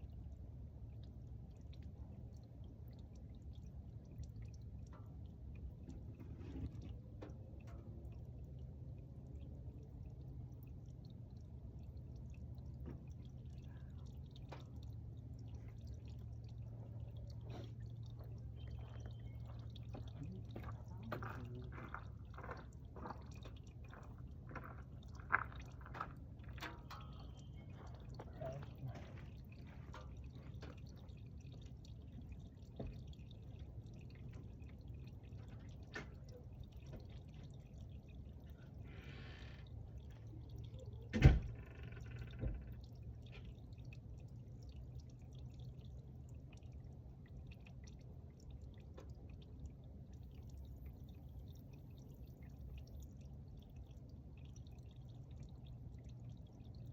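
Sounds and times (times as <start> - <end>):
oil dripping into a pan: 0.0 - 56.9.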